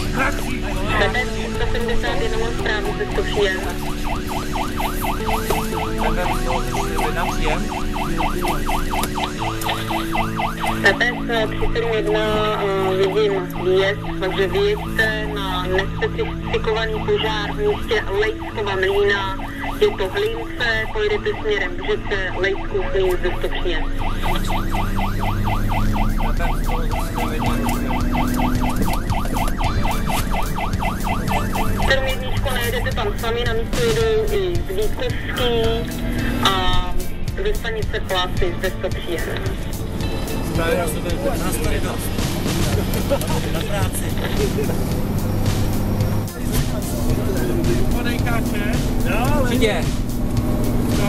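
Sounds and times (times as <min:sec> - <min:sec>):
siren yelping: 0:00.0 - 0:51.0
truck engine hum: 0:00.0 - 0:51.0.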